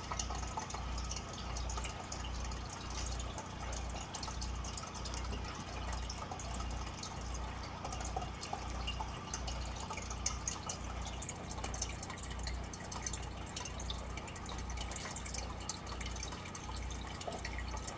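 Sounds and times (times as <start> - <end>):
fine bubbling crackle: 0.0 - 17.9
water trickling and dripping: 0.0 - 17.9.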